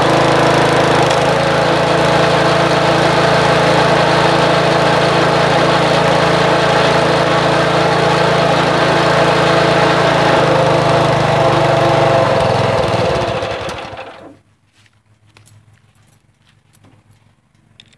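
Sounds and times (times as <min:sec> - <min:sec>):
small gasoline engine running: 0:00.0 - 0:14.4.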